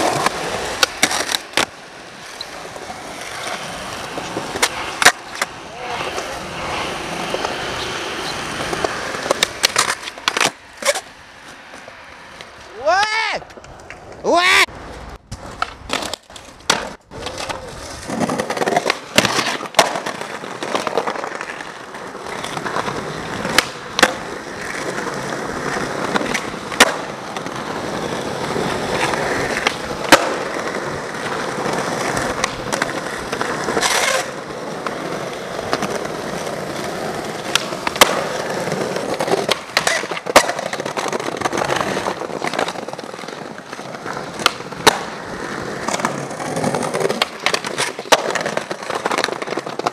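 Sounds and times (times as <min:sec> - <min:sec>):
skateboard grinding on ledges: 0:00.0 - 0:12.8, 0:13.4 - 0:49.9
skateboard clacks: 0:00.0 - 0:49.9
skateboard wheels rolling on pavement: 0:00.0 - 0:49.9.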